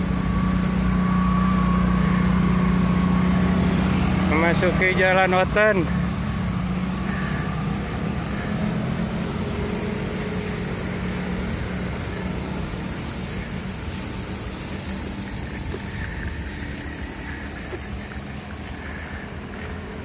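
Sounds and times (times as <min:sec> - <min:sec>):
motor scooter engines humming: 0:00.0 - 0:20.0.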